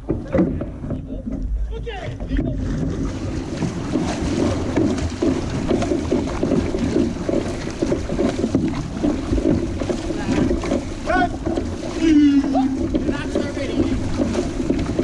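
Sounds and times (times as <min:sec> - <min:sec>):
water rushing around canoe: 0:00.0 - 0:15.0.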